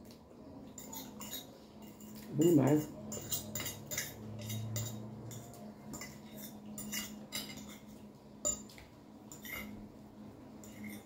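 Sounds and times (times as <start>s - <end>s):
cutlery clinking on glass plates: 0.7s - 9.8s, 10.6s - 11.0s.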